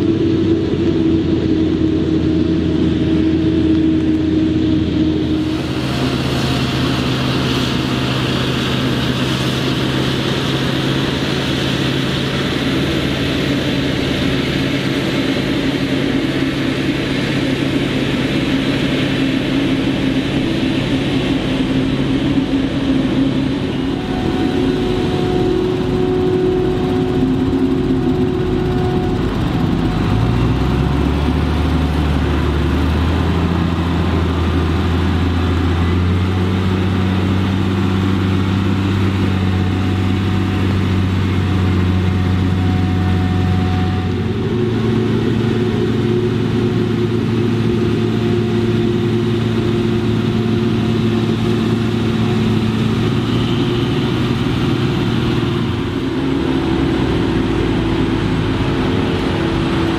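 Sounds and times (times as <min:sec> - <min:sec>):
diesel engines running under load: 0:00.0 - 0:59.9
tractor engine passing close: 0:00.0 - 0:59.9.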